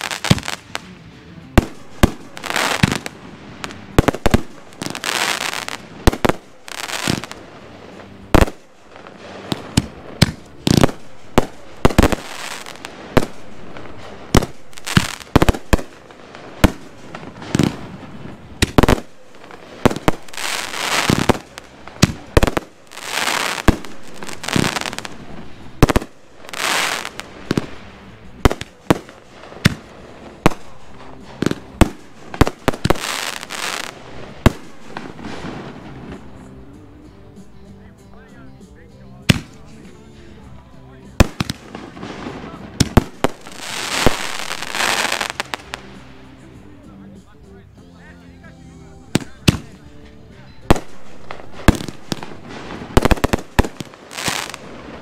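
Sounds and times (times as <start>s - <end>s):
fireworks bangs: 0.0s - 36.5s, 39.2s - 46.6s, 49.1s - 49.8s, 50.6s - 55.0s
fireworks hissing: 0.0s - 37.6s, 38.6s - 46.9s, 50.6s - 55.0s.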